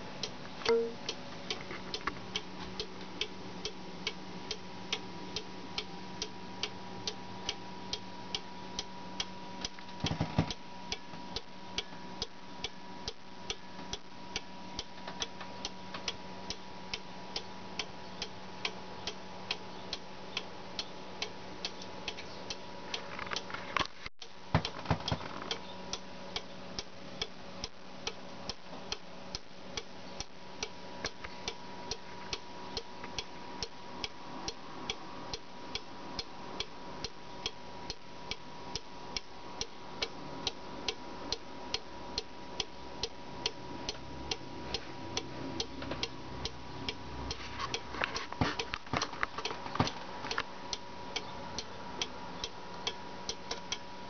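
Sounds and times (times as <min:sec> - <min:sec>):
clock pendulum ticking: 0:00.2 - 0:09.9, 0:10.5 - 0:23.5, 0:24.2 - 0:54.0.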